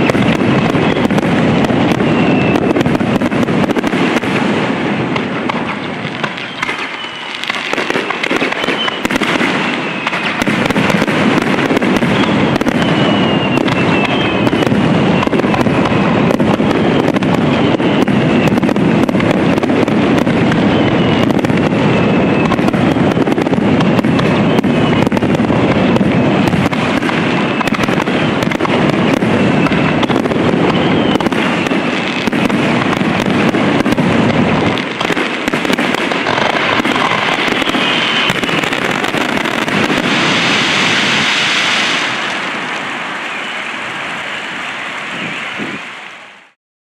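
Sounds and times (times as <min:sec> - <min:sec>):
falling firework whistles: 0:00.0 - 0:46.6
fireworks bangs and crackling: 0:00.0 - 0:46.6.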